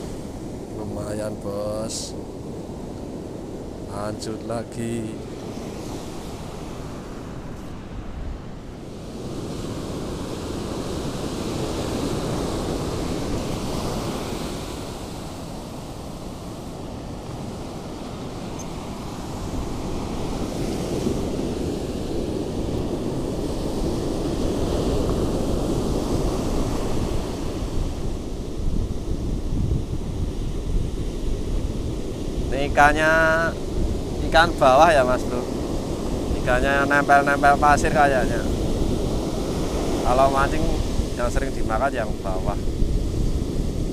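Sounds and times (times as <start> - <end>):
surf washing up a beach: 0.0 - 43.9
wind buffeting microphone: 0.0 - 43.9.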